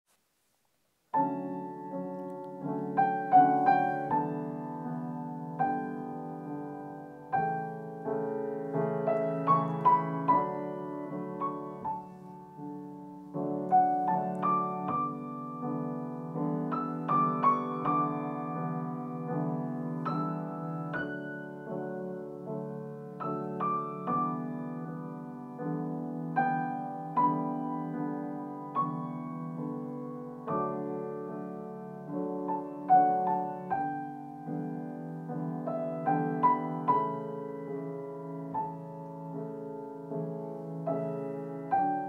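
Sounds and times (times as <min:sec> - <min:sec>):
solo piano music: 0:00.9 - 0:42.0.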